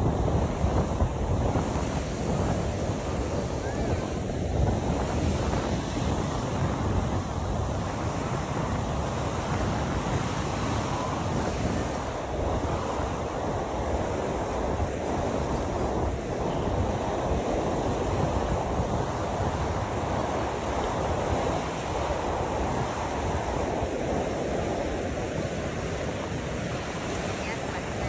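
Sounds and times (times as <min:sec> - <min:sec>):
sea surf washing onto beach: 0:00.0 - 0:28.0
wind buffeting microphone: 0:00.0 - 0:28.0.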